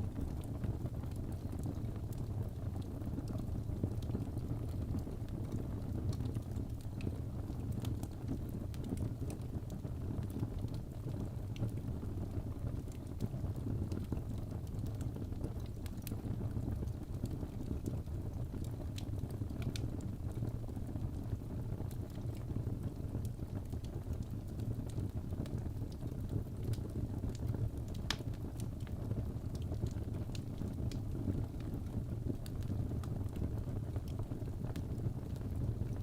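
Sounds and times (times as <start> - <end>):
fire crackling and popping: 0.0 - 36.0
wood fire rumbling: 0.0 - 36.0.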